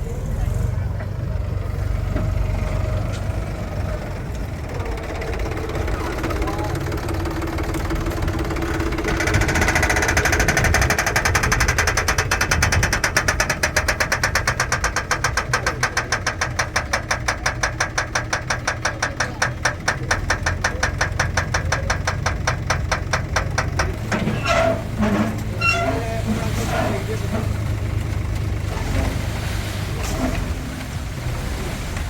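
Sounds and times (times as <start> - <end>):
diesel engine rumbling: 0.0 - 32.0
regular engine knocking: 0.0 - 32.0.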